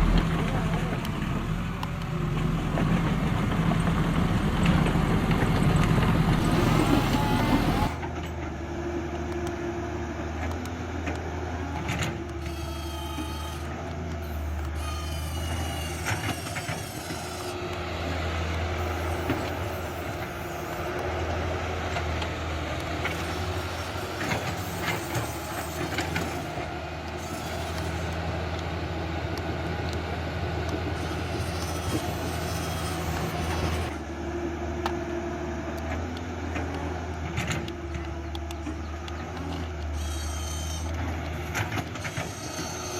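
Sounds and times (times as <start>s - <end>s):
motor whines gliding in pitch: 0.0s - 42.9s
toy excavator motor hum: 4.7s - 42.9s.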